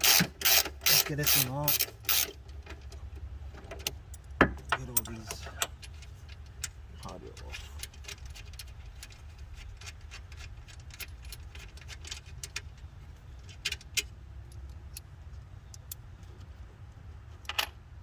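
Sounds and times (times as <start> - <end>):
low steady rumble: 0.1 - 18.0.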